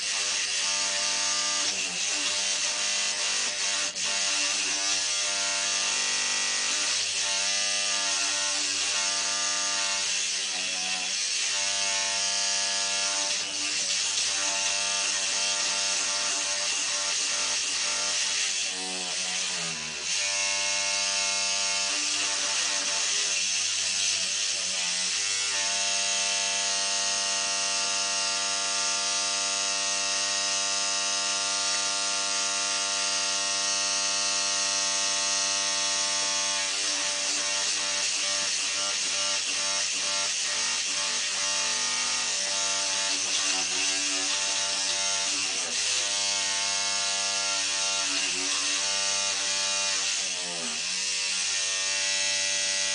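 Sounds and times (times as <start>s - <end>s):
electric toothbrush buzzing: 0.0s - 52.9s.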